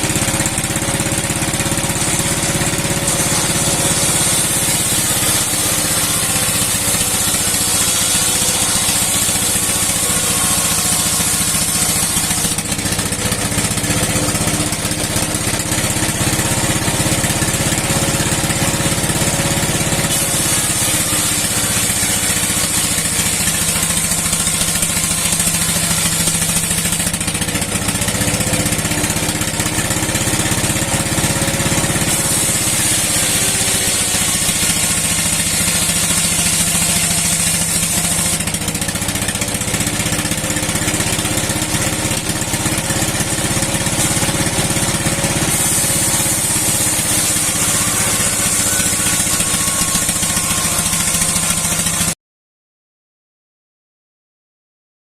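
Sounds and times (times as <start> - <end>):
saw blade hissing through wood: 0.0 - 52.1
engine running under load: 0.0 - 52.2.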